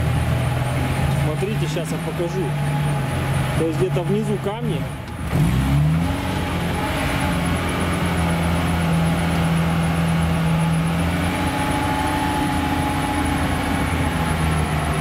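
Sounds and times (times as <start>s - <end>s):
tracked vehicle engine humming: 0.0s - 15.0s.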